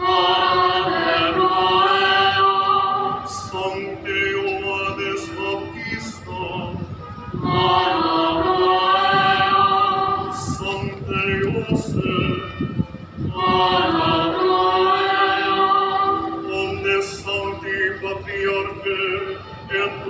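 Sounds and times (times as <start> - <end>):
choir singing slow hymn: 0.0 - 12.4, 13.2 - 20.0.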